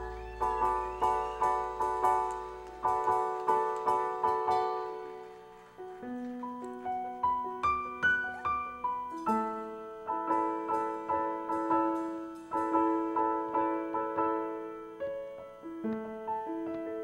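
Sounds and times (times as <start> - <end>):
solo piano broken chords: 0.0 - 17.0.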